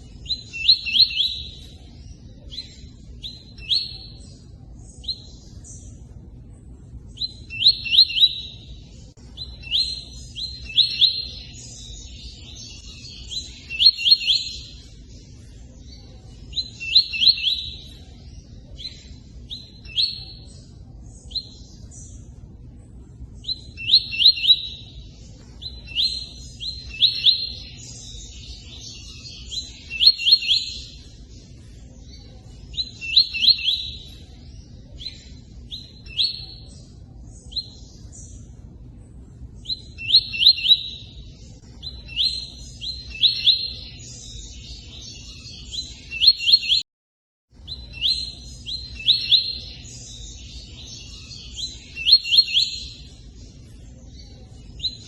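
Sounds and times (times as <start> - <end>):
bird chirping: 0.0 - 46.8, 47.6 - 55.0.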